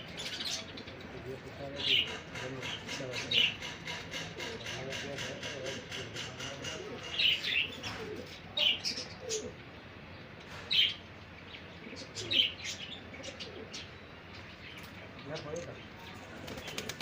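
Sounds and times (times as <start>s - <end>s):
soft low bird calls: 0.0s - 17.0s.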